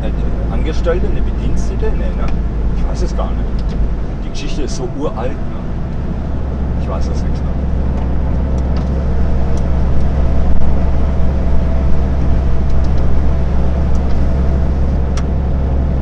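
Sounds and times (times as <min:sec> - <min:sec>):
truck engine and tyres droning: 0:00.0 - 0:16.0.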